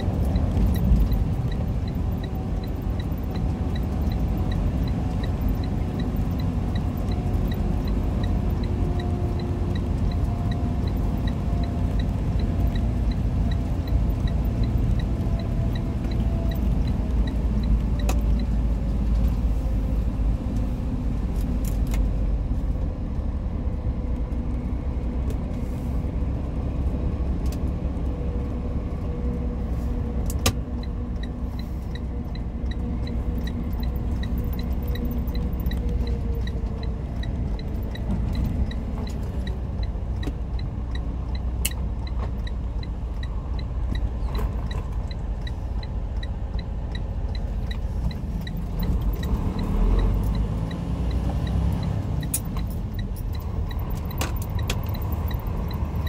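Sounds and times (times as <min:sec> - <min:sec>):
truck engine rumble in cab: 0:00.0 - 0:56.0.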